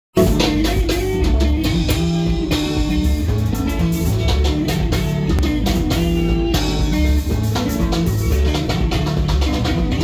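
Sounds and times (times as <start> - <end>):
drum kit: 0.1 - 10.0
electric bass: 0.1 - 10.0
electric guitar: 0.1 - 10.0.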